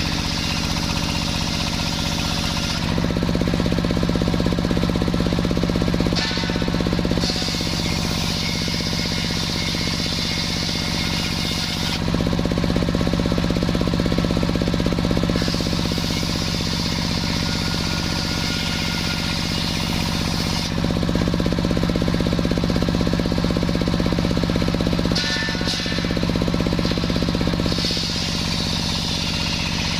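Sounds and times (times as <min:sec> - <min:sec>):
sawmill saw cutting log: 0:00.0 - 0:29.9.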